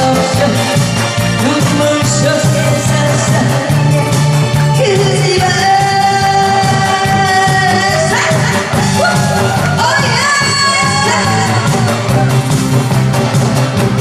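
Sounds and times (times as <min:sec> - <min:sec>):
woman singing into a microphone: 0:00.0 - 0:12.0
instrumental music with steady beat: 0:00.0 - 0:14.0.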